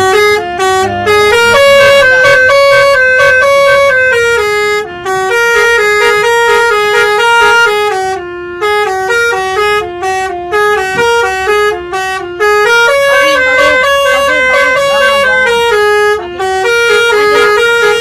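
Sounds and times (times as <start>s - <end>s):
bus multi-tone horn melody: 0.0s - 18.0s.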